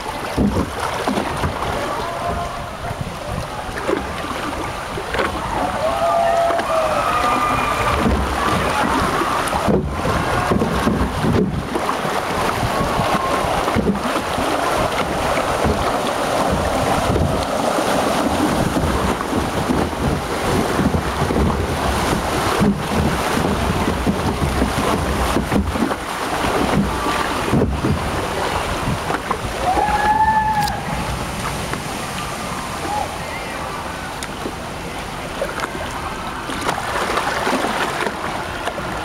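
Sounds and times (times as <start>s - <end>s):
wind buffeting microphone: 0.0s - 34.6s
water rushing in flume trough: 0.0s - 39.0s.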